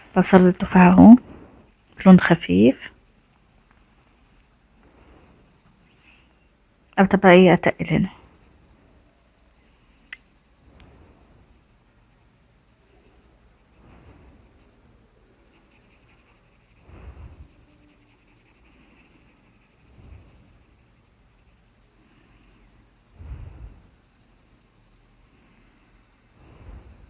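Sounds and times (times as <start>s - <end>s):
pencil scratching on paper: 0.0s - 6.4s, 7.1s - 27.0s.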